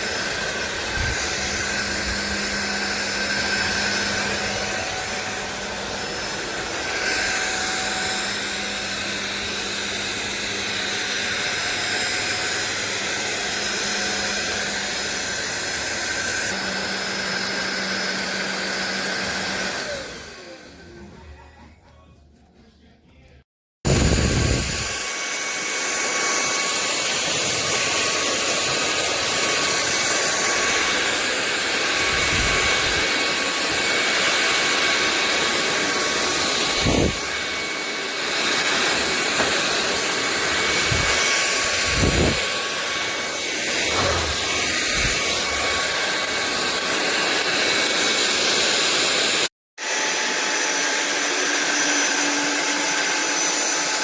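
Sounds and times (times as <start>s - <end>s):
stick vacuum running: 0.0s - 22.0s, 23.9s - 54.0s.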